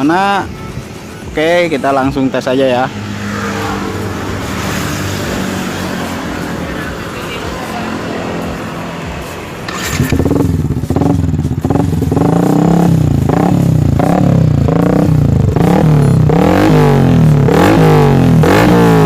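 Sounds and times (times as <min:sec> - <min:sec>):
motorcycle engine revving: 0:02.7 - 0:19.0.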